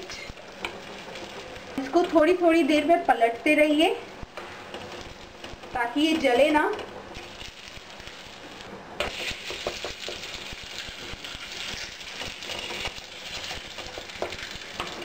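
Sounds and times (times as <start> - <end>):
flatbread sizzling in oil: 0.0 - 15.0.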